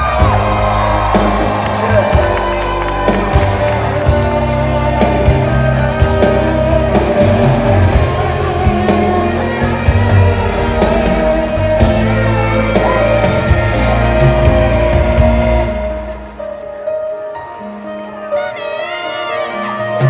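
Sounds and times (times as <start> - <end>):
instrumental rock music with guitar: 0.0 - 18.4.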